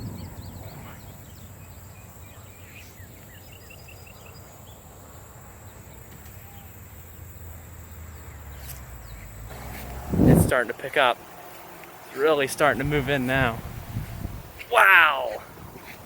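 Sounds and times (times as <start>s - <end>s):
high insect drone: 0.0s - 16.0s
low rumble of wind: 0.0s - 16.0s
songbirds chirping: 0.0s - 16.0s.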